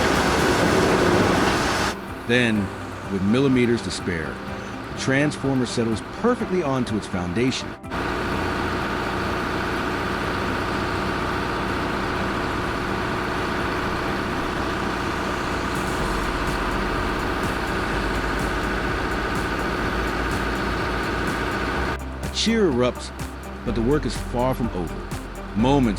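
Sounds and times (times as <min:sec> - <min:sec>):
heavy diesel engine running: 0:00.0 - 0:25.9.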